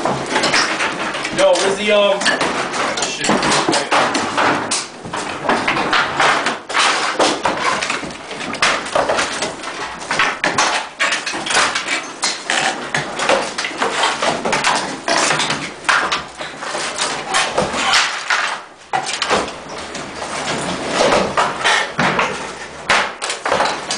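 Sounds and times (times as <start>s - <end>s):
debris clattering down: 0.0s - 23.9s
hammers striking plaster walls: 0.0s - 23.9s.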